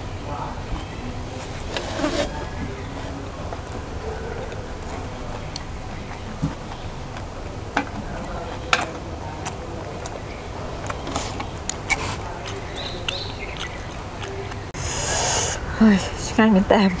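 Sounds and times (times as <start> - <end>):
chewing: 0.5 - 15.6.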